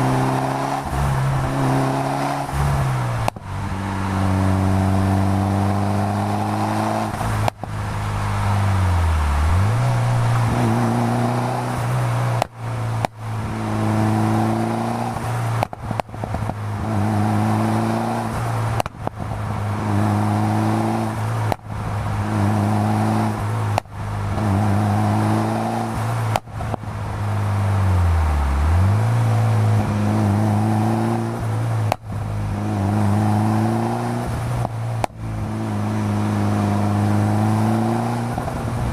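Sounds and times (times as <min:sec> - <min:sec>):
turbocharged car engine accelerating: 0:00.0 - 0:38.9.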